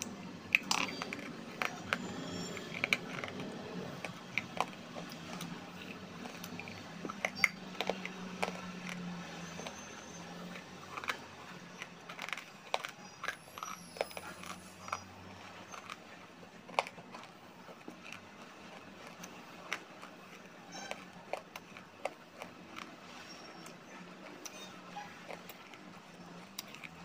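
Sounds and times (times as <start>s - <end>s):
chewing crunchy clay: 0.0s - 27.0s.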